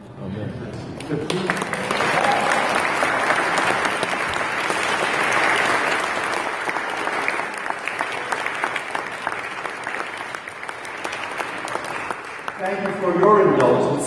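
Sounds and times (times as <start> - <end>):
crowd applauding: 1.0 - 14.0.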